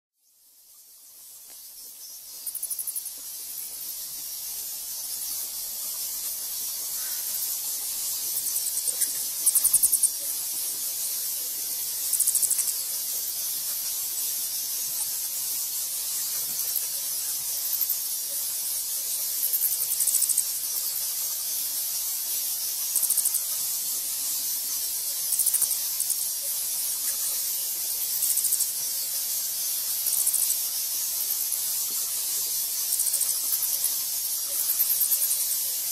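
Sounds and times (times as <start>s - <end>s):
bats high-pitched hiss: 0.2s - 35.9s
bats rapid clicking chatter: 0.8s - 35.9s.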